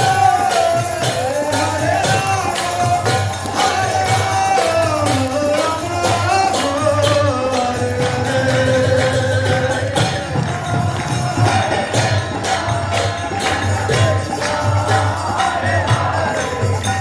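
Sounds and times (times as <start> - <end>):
hand cymbals jingling: 0.0 - 17.0.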